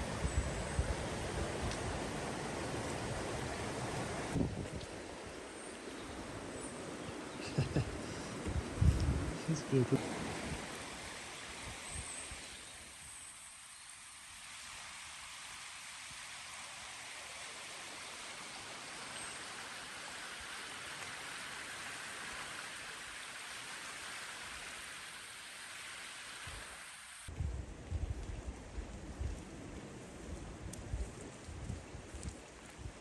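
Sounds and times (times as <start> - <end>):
steady rain hiss: 0.0 - 33.0.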